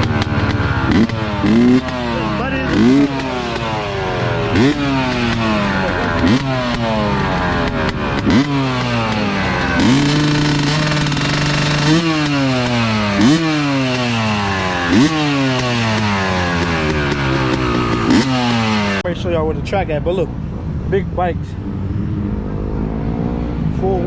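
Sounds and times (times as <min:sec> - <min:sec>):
dirt bike engine revving: 0:00.0 - 0:19.1, 0:21.6 - 0:24.0.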